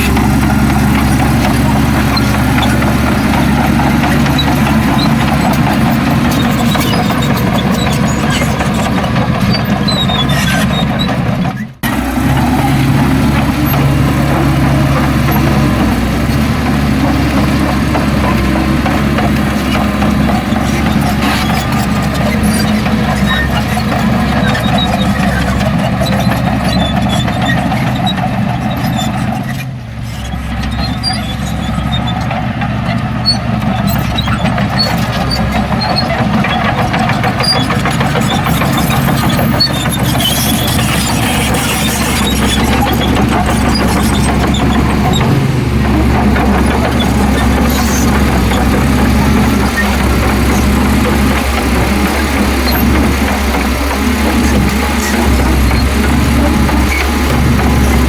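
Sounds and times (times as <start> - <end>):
diesel earthmoving machinery drone: 0.0 - 58.0.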